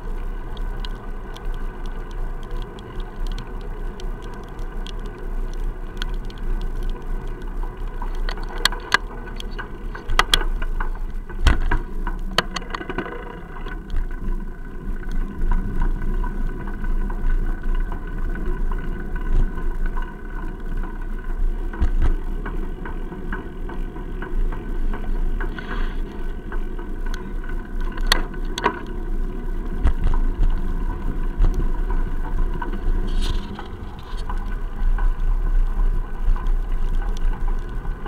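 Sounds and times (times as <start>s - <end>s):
faint steady hum: 0.0s - 38.0s
steady low rumble: 0.0s - 38.0s.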